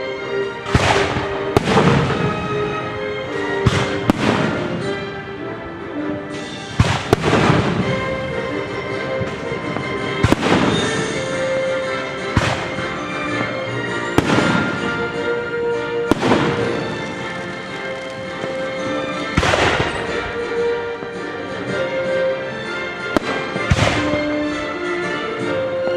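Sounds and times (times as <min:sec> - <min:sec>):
hissing crackling fireworks: 0:00.3 - 0:25.9
fireworks bangs: 0:00.6 - 0:22.4, 0:23.0 - 0:24.8.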